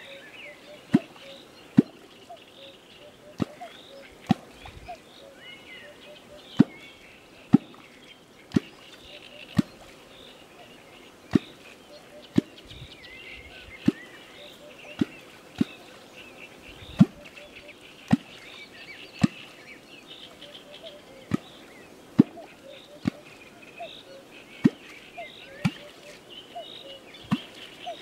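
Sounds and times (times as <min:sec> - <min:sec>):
birds chirping faintly: 0:00.0 - 0:28.0.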